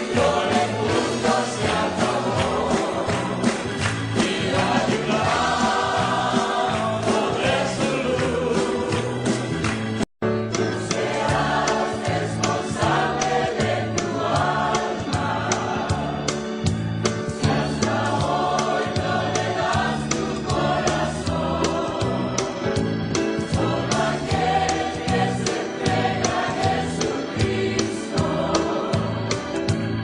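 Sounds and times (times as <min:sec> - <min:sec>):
choir singing over a beat: 0:00.0 - 0:30.0.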